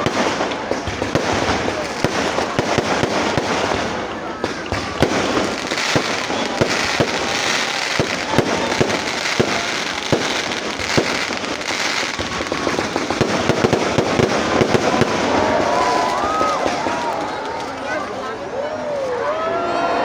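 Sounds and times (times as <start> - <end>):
firework bangs: 0.0 - 19.2
fireworks crackling: 0.0 - 19.5.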